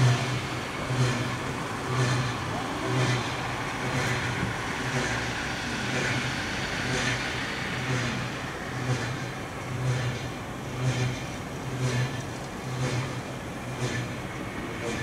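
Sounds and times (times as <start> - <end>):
turntable pulsing mechanical hum: 0.0 - 15.0.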